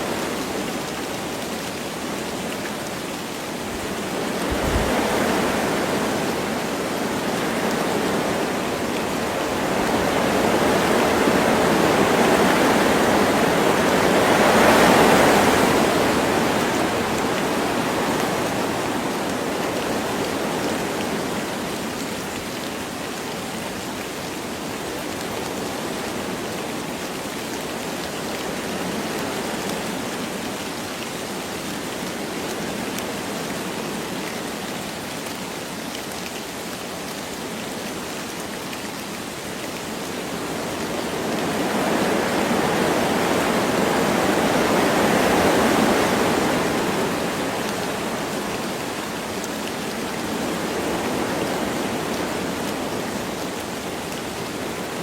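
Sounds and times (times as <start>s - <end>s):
light rain falling: 0.0s - 55.0s
wind through trees: 0.0s - 55.0s.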